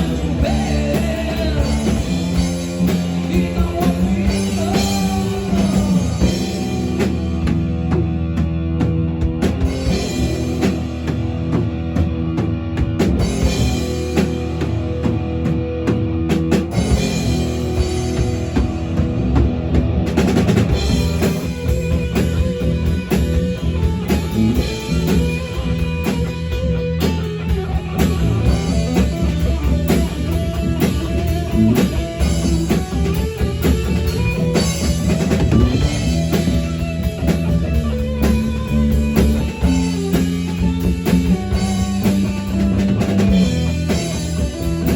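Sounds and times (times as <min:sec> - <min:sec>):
drum kit: 0:00.0 - 0:44.9
guitar: 0:00.0 - 0:44.9.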